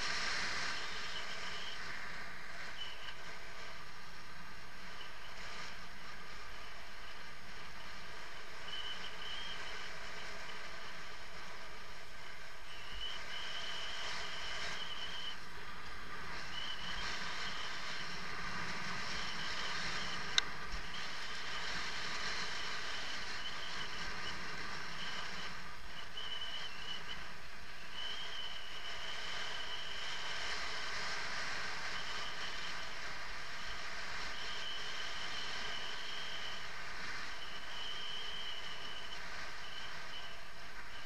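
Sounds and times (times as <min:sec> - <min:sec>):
wind and tyre noise: 0:00.0 - 0:41.0.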